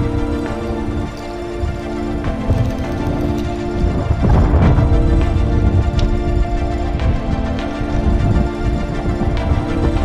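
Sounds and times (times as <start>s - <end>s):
sustained chords: 0.0s - 10.0s.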